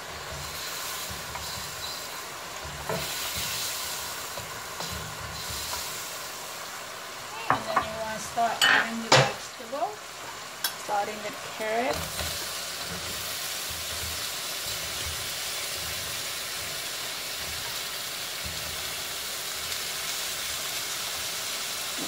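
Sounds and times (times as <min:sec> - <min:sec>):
vegetables sizzling in wok: 0:00.0 - 0:22.0.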